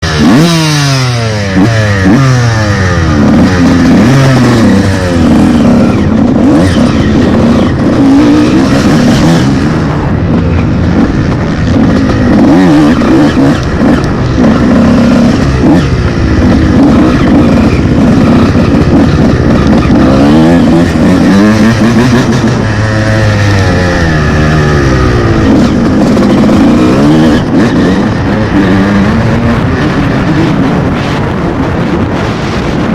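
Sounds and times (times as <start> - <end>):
motocross bike engine revving: 0.0 - 32.9.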